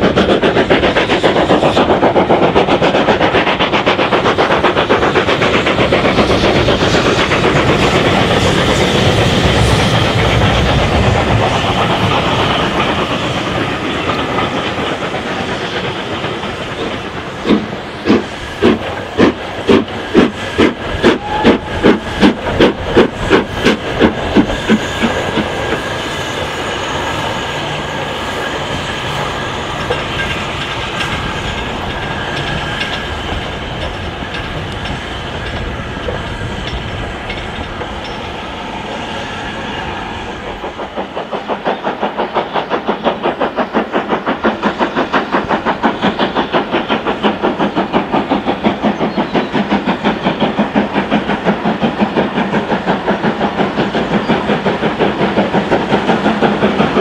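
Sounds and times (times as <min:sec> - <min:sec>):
steam hiss: 0:00.0 - 0:57.0
steam train chuffing: 0:00.0 - 0:57.0.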